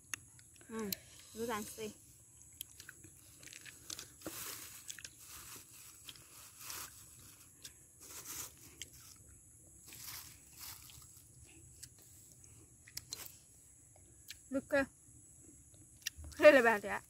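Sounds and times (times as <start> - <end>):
olives being chewed crunching: 0.0 - 1.3, 2.1 - 7.9, 8.5 - 14.5, 15.6 - 16.5.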